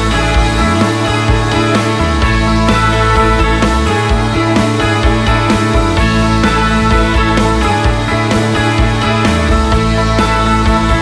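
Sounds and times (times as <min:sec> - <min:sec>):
rock music with guitar and drums: 0:00.0 - 0:11.0.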